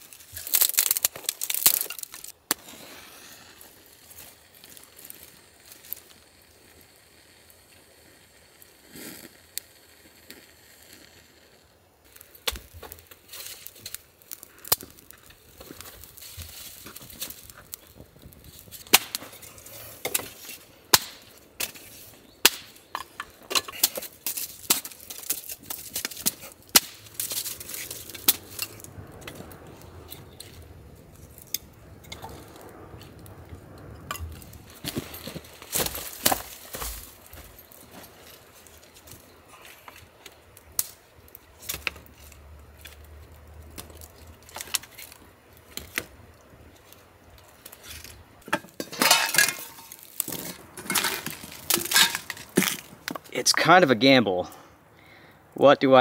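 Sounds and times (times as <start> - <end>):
twig fire crackling: 0.0 - 56.0.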